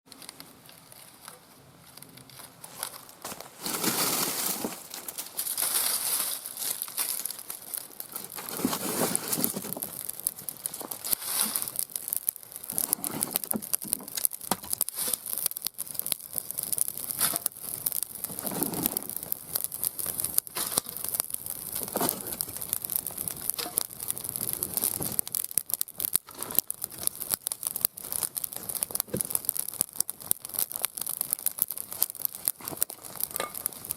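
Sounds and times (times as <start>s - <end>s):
wood fire crackling and popping: 0.1s - 33.9s
flames rushing: 2.6s - 33.9s.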